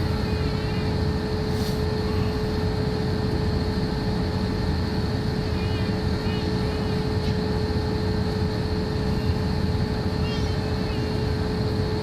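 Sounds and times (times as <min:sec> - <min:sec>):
constant cabin hum: 0:00.0 - 0:12.0.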